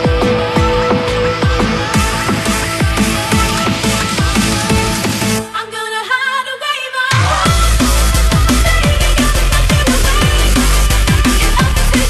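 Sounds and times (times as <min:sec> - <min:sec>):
heavy bass and drums: 0:00.0 - 0:05.5, 0:07.3 - 0:12.0.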